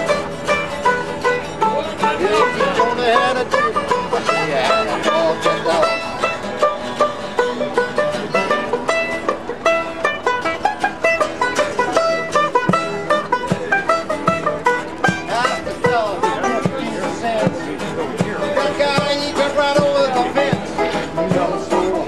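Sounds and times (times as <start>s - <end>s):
banjo picking melody: 0.0s - 22.0s
strummed acoustic guitar: 0.0s - 22.0s.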